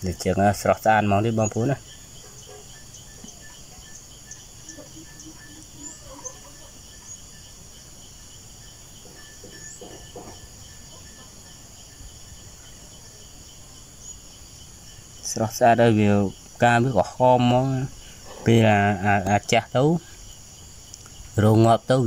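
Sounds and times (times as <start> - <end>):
faint calls: 0.0 - 22.0
insect chorus trilling: 0.0 - 22.0.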